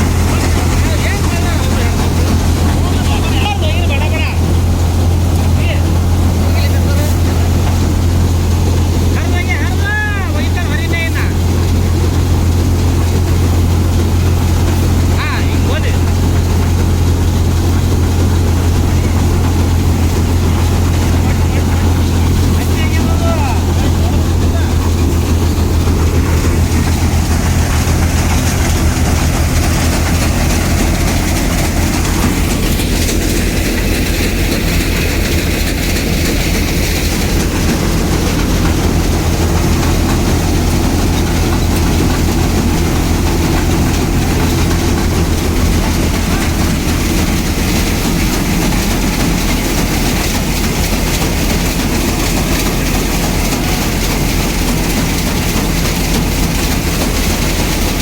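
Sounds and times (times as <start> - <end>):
harvester engine droning: 0.0 - 58.0.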